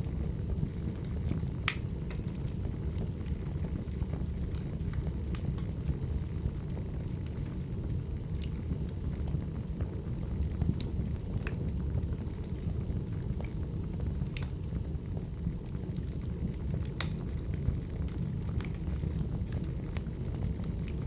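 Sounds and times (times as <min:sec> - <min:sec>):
firewood burning with crackles: 0:00.0 - 0:21.0.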